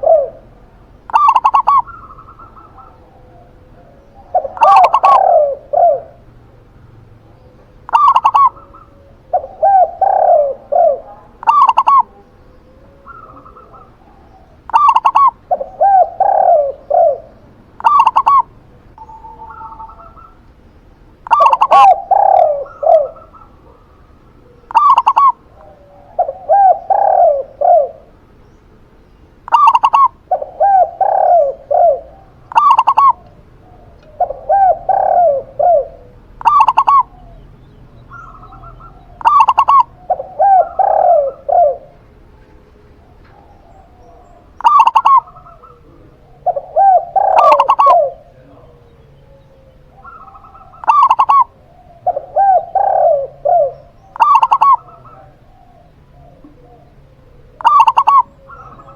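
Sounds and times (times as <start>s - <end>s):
doves cooing: 0.0s - 58.9s.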